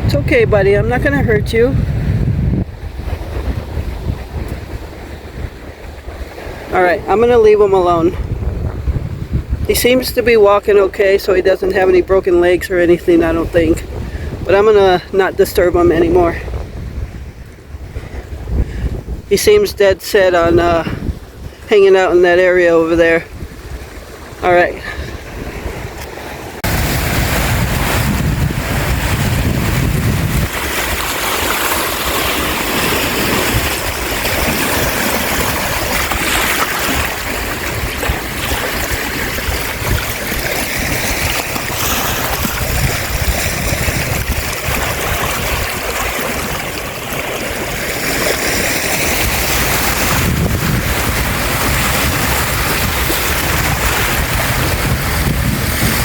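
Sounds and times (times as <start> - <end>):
waves washing onto shore: 0.0 - 56.0
wind rumbling on microphone: 0.0 - 56.0.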